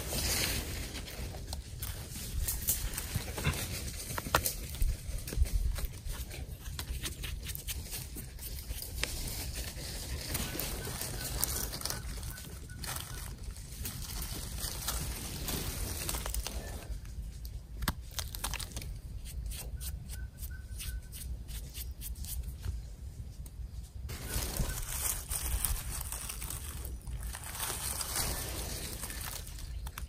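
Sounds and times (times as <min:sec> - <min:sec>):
dry leaves and twigs crackling: 0:00.0 - 0:20.6, 0:21.6 - 0:30.0.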